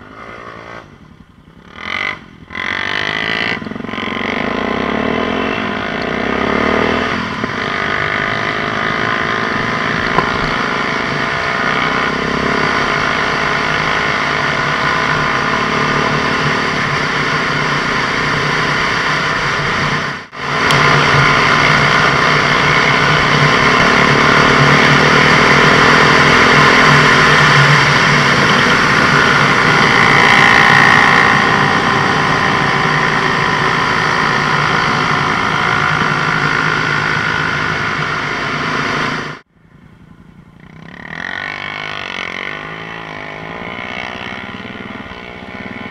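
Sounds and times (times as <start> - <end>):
quad engine revving: 1.6 - 39.5, 40.6 - 45.9.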